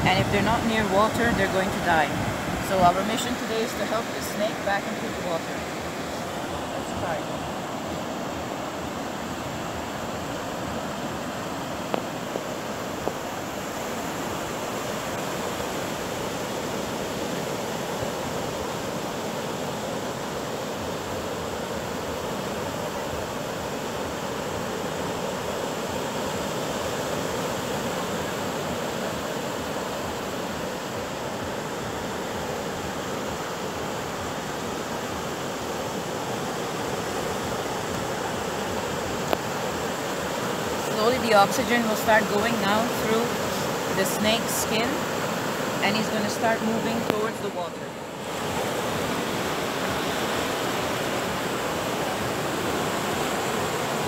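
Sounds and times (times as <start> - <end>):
sea surf washing up beach: 0.0 - 54.0.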